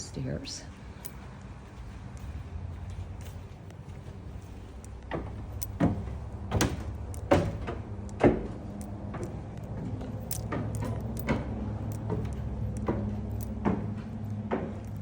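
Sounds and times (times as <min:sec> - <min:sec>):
footsteps climbing stairs: 0:00.0 - 0:15.0.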